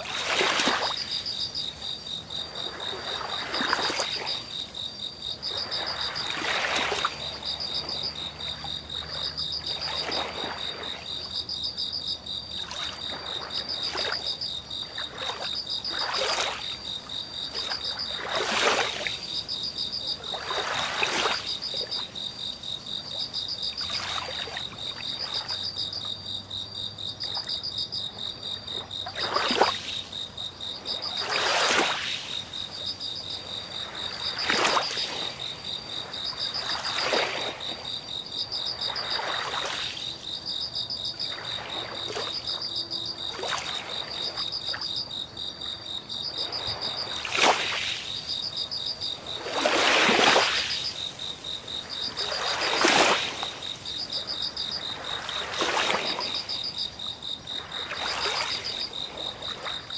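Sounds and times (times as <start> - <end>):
frogs and crickets chirping: 0.0 - 59.9.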